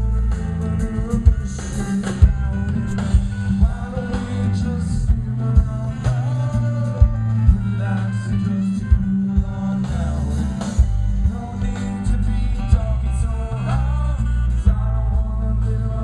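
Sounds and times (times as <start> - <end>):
bass guitar: 0.0 - 16.0
drums: 0.0 - 16.0
electric guitar: 0.0 - 16.0
person singing: 0.0 - 16.0.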